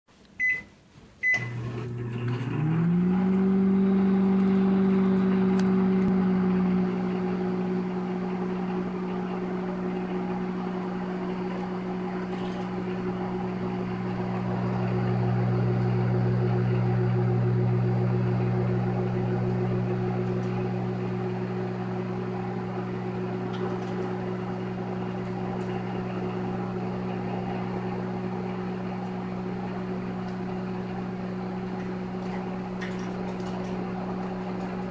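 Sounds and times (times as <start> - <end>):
microwave oven humming: 0.3 - 34.9.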